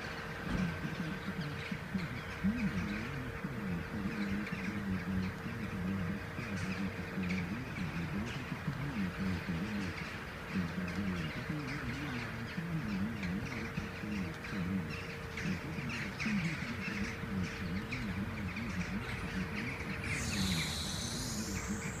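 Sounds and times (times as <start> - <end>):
crows calling: 0.0 - 22.0
steady low hum: 0.0 - 22.0.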